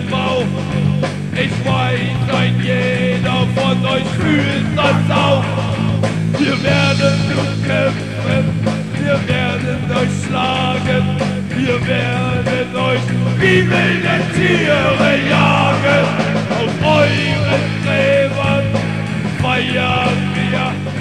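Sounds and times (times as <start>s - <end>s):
punk rock song: 0.0s - 21.0s.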